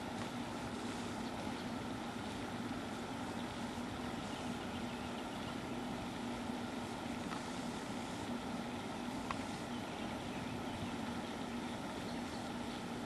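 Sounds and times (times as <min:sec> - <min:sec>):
background hiss: 0:00.0 - 0:13.0
low hum: 0:00.0 - 0:13.0.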